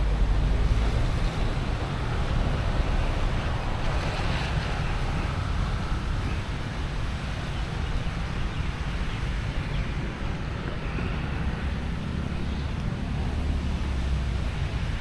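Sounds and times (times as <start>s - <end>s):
traffic noise: 0.0s - 15.0s
wind buffeting microphone: 0.0s - 15.0s.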